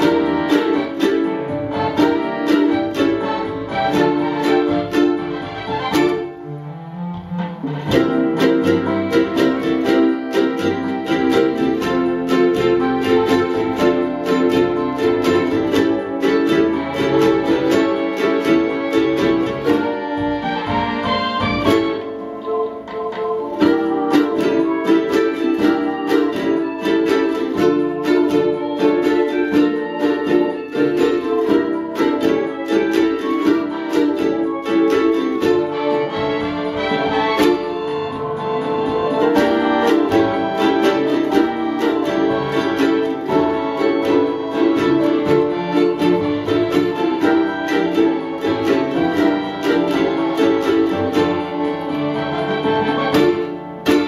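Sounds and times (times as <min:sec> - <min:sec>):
ukuleles playing a tune: 0:00.0 - 0:54.0.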